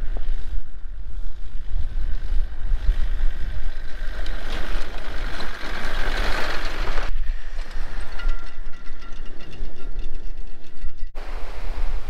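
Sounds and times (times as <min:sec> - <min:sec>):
wind rumbling on microphone: 0:00.0 - 0:12.0
vehicle driving on dirt track: 0:01.3 - 0:11.1.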